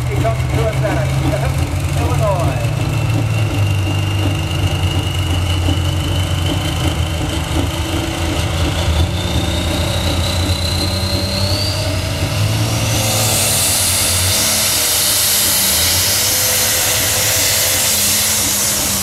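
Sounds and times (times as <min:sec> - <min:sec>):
high whine rising in pitch: 0:00.0 - 0:19.0
tractor engine droning loudly: 0:00.0 - 0:19.0.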